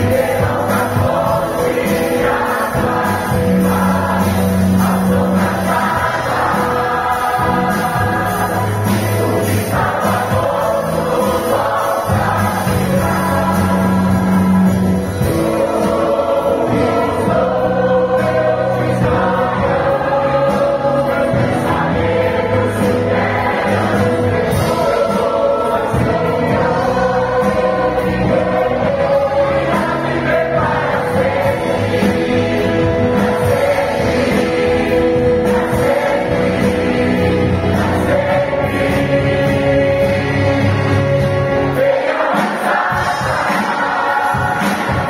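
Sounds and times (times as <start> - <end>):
bass line: 0.0 - 41.9
choir singing gospel: 0.0 - 45.0
keyboard accompaniment: 0.0 - 45.0.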